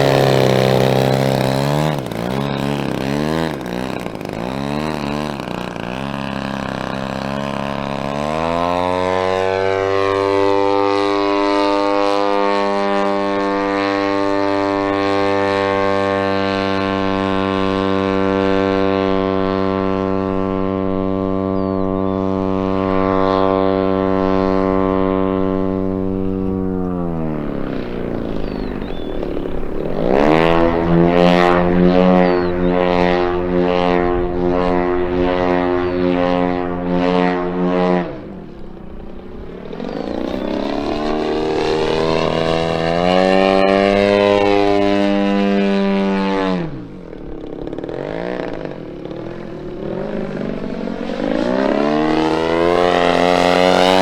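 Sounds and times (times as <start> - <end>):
model plane engine and propeller: 0.0 - 54.0.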